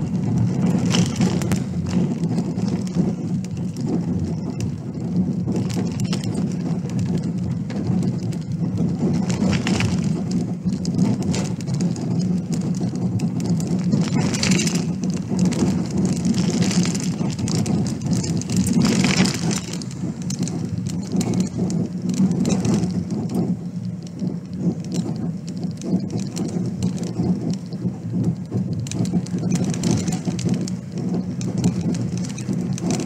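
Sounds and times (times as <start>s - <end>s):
car rumble on gravel road: 0.0s - 33.0s
gravel ticks and patters: 0.0s - 33.0s.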